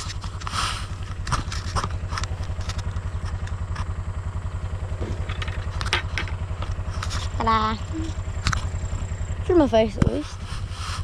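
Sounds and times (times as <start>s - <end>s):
utility vehicle engine idling: 0.0s - 11.0s.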